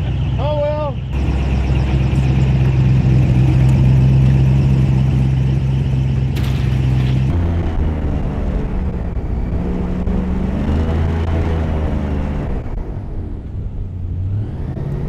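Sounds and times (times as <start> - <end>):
airboat engine droning: 0.0 - 14.3.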